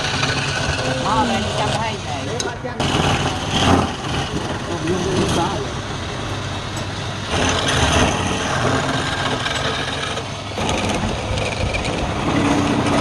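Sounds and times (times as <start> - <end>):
lathe motor hum: 0.0 - 13.0
tool cutting spinning wood: 0.0 - 13.0.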